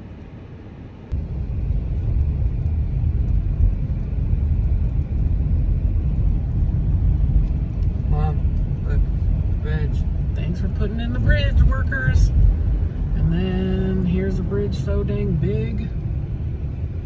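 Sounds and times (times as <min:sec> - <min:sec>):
road and wind noise: 0:00.0 - 0:17.0
vehicle rumble: 0:00.0 - 0:17.0.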